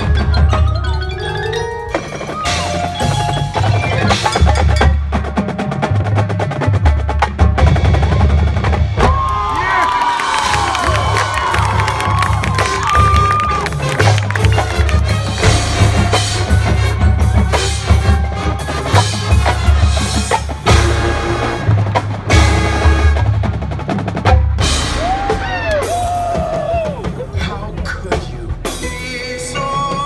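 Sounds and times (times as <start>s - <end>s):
marching band playing: 0.0s - 30.0s.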